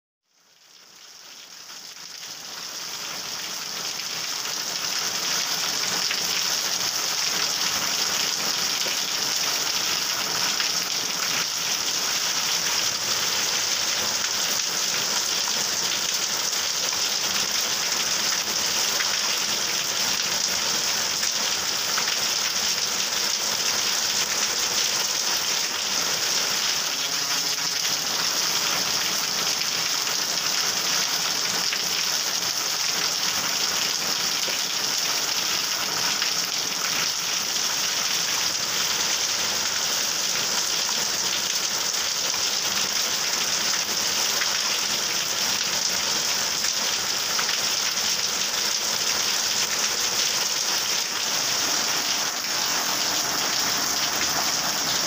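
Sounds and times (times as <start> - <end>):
heavy rain on pavement: 0.3 - 55.0
rain splashing in puddles: 0.3 - 55.0.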